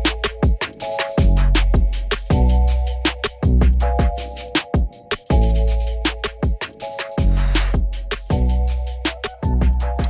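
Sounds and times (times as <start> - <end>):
drum and bass music: 0.0 - 10.0.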